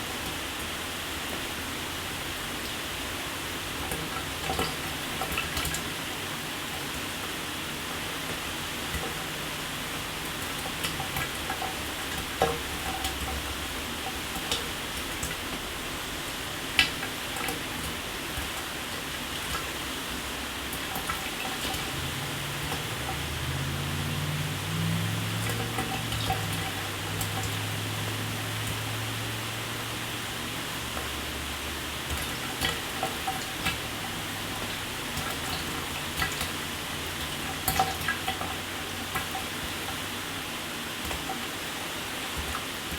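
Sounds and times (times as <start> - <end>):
shower running: 0.0 - 42.9
water splats and drips: 2.3 - 42.9.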